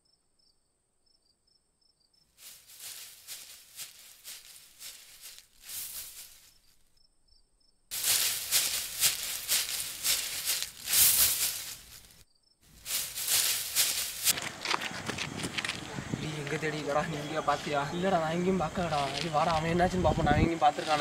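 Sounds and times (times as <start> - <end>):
crickets chirping: 0.0 - 21.0
shrubs and leaves rustling: 2.4 - 6.8, 7.9 - 21.0.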